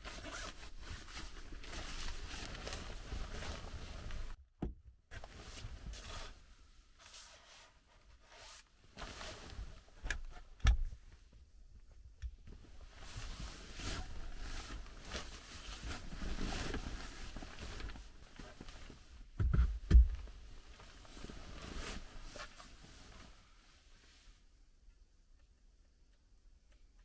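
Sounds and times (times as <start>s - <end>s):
rustling and scraping: 0.0s - 4.4s, 5.1s - 24.4s.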